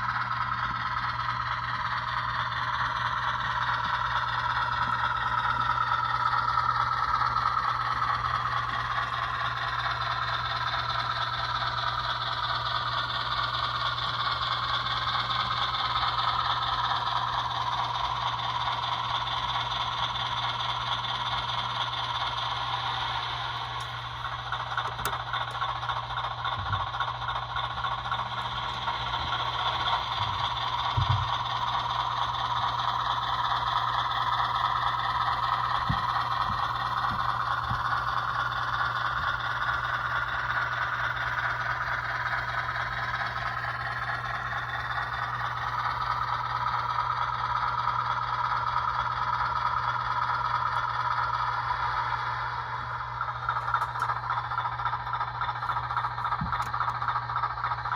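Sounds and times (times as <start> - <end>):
constant low hum: 0.0 - 57.9
model train motor whine: 0.0 - 57.9.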